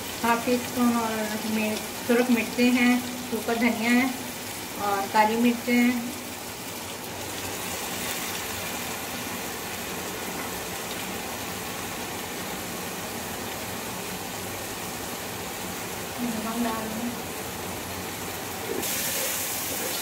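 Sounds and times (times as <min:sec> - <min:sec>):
masala sizzling in oil: 0:00.0 - 0:20.0.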